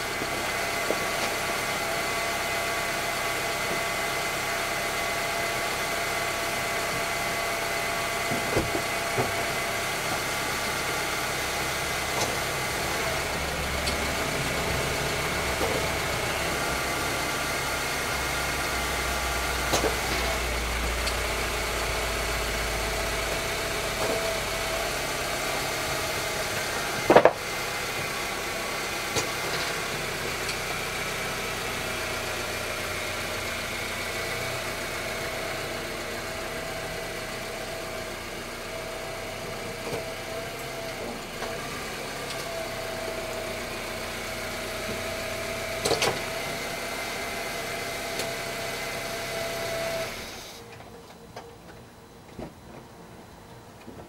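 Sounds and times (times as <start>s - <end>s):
car engine idling: 0.0s - 51.3s.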